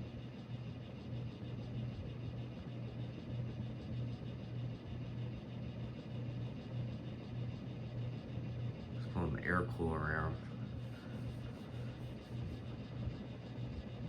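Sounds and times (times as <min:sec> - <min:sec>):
ceiling fan running with buzzing hum: 0:00.0 - 0:14.0.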